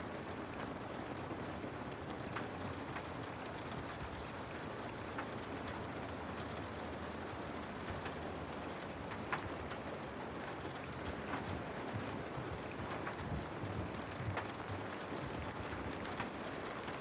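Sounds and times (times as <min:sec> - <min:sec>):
raindrops tapping on window: 0:00.0 - 0:17.0
steady rain falling: 0:00.0 - 0:17.0.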